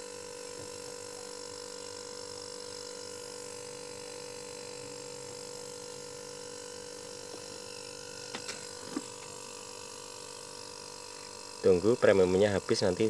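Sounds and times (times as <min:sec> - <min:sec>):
compressor electrical hum: 0:00.0 - 0:13.0.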